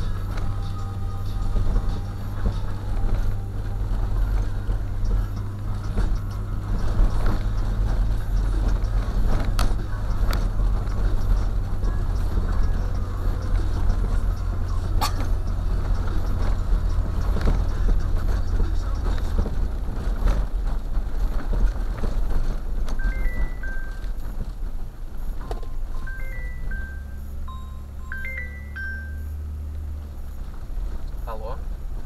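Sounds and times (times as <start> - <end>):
engine and tyre drone: 0.0 - 32.0.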